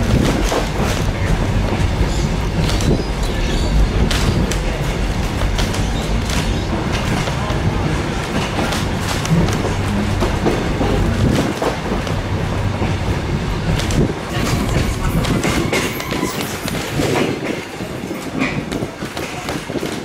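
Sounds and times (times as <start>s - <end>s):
train rumbling on track: 0.0s - 20.0s
wheels clicking over rails: 0.0s - 20.0s.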